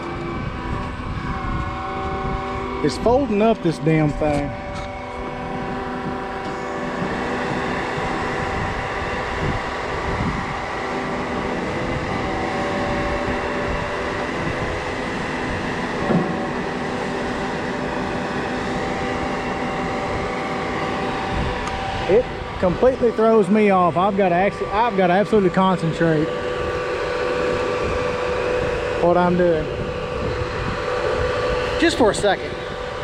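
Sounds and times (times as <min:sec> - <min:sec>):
truck engine and hydraulics drone: 0:00.0 - 0:33.0.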